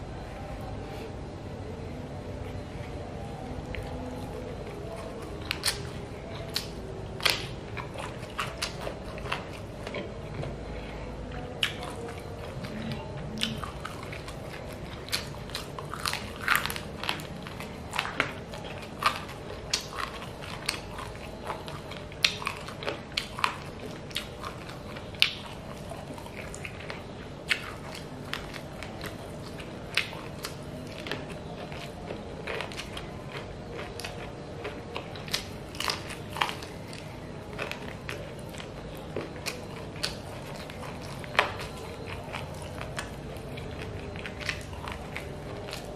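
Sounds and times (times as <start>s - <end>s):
faint steady hum: 0.0s - 45.9s
wet chewing and smacking: 2.5s - 45.9s.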